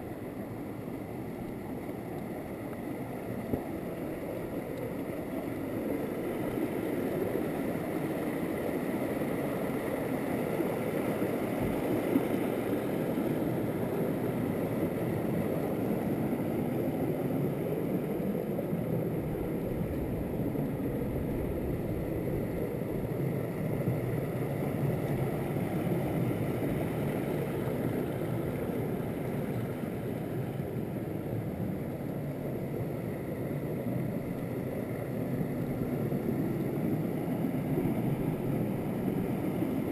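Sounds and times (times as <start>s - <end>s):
stream rushing over rocks: 0.1s - 39.9s.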